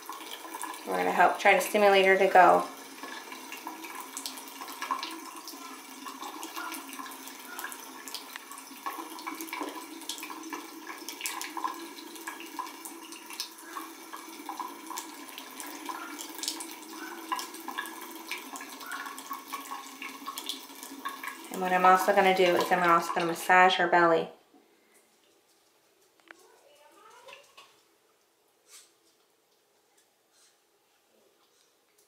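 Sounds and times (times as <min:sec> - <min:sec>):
faucet water stream into sink: 0:00.0 - 0:24.2, 0:25.2 - 0:27.8.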